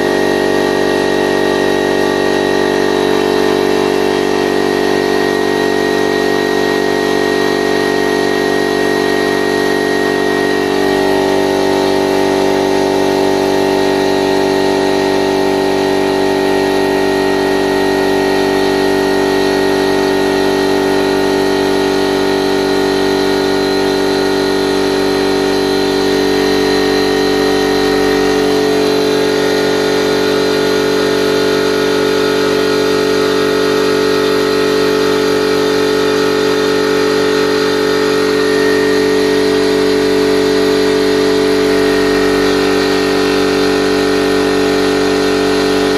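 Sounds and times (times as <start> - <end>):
piston air compressor running: 0.0 - 45.9.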